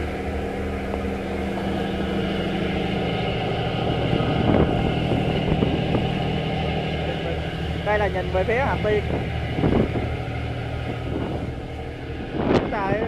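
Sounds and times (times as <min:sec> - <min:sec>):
ship engines droning: 0:00.0 - 0:13.0
water rushing in wake: 0:00.0 - 0:13.0.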